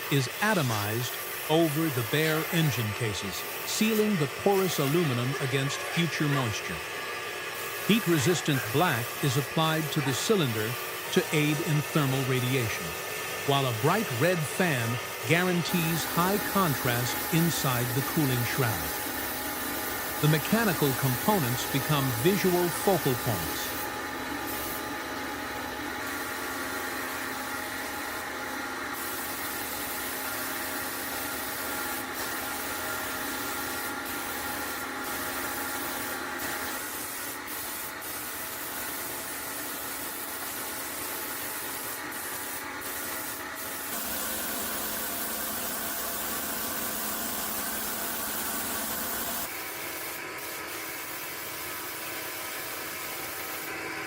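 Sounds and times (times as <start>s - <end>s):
paint spray gun hissing: 0.0s - 53.7s.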